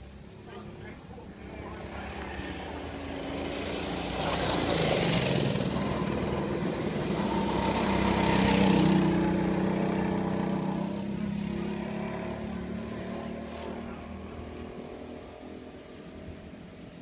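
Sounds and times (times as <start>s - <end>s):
go-kart engine running: 1.2s - 17.0s.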